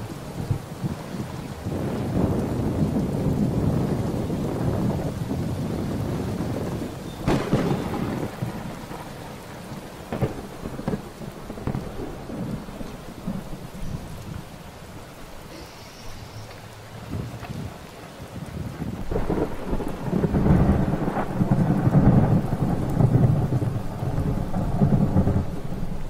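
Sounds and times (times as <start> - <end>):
rain falling: 0.0 - 26.0
thunder rumbling: 0.0 - 26.0.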